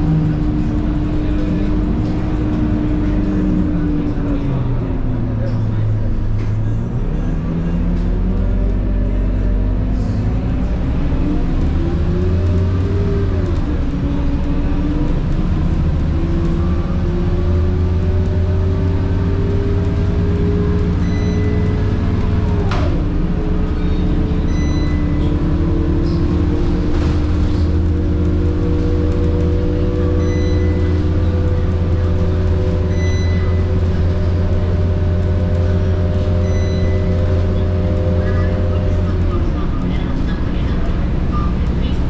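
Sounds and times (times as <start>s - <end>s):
bus diesel engine drone: 0.0s - 42.0s.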